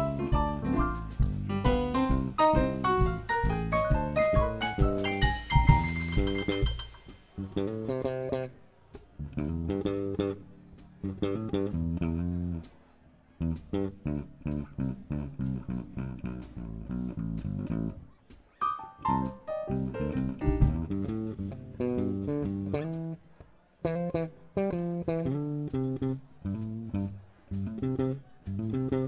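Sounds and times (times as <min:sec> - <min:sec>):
electric bass guitar solo: 0:00.0 - 0:08.6, 0:09.2 - 0:12.6, 0:13.4 - 0:23.2, 0:23.8 - 0:29.0.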